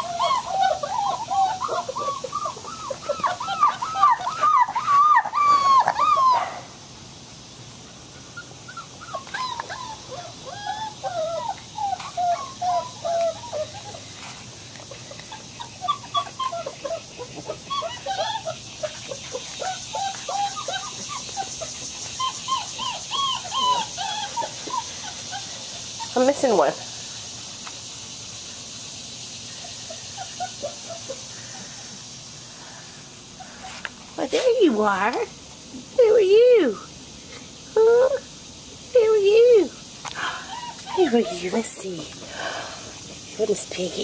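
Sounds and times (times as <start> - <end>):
puppies whining: 0.0 - 6.7, 8.2 - 26.8, 29.6 - 35.2, 39.0 - 44.0.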